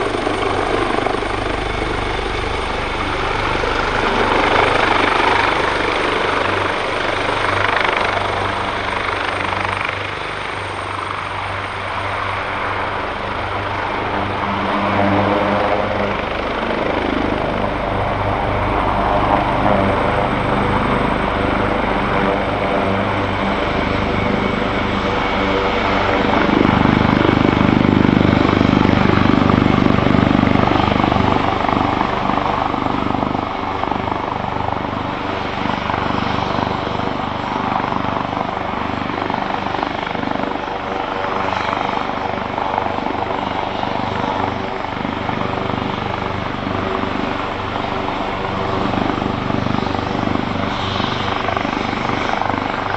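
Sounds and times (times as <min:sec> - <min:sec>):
helicopter turbine whine: 0:00.0 - 0:52.9.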